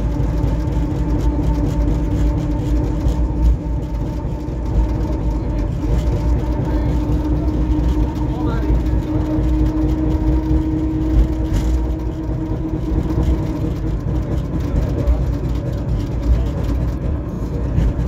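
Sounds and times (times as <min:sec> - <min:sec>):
humming tone: 0:00.0 - 0:15.8
tram wheels rumbling on rails: 0:00.0 - 0:18.0.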